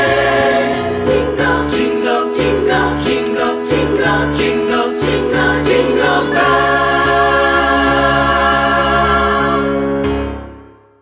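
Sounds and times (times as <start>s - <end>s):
vocal group singing chords: 0.0s - 10.2s.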